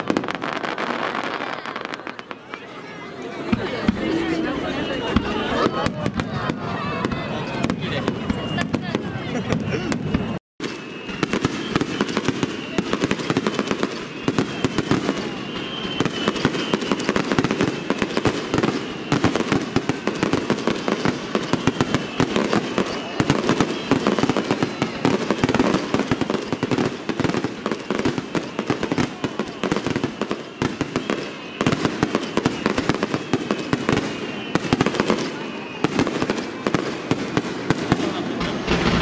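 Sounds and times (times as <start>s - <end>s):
crackling fireworks stars: 0.0s - 39.0s.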